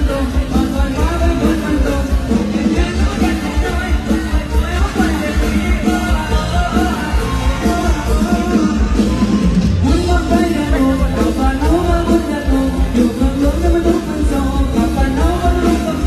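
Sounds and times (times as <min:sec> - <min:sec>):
heavy bass and drum beat: 0:00.0 - 0:16.0.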